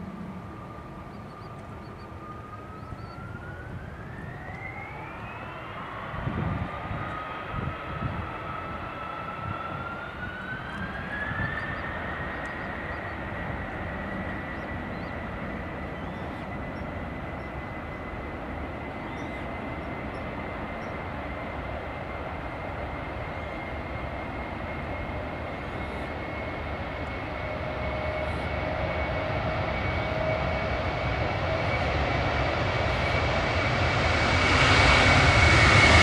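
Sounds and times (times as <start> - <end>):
jet engines spooling up: 0.0 - 36.0.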